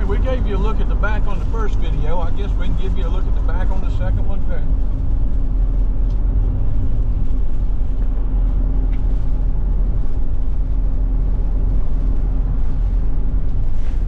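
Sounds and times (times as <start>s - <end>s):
motorhome engine drone: 0.0s - 14.0s
road noise: 0.0s - 14.0s.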